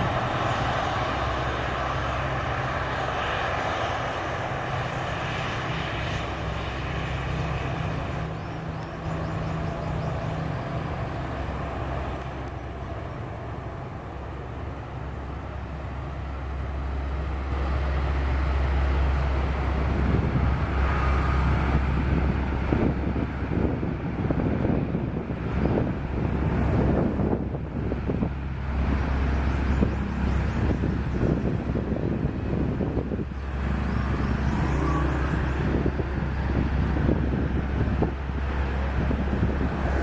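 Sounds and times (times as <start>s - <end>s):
jet airliner engines rumbling: 0.0s - 40.0s
wind buffeting microphone: 0.0s - 40.0s.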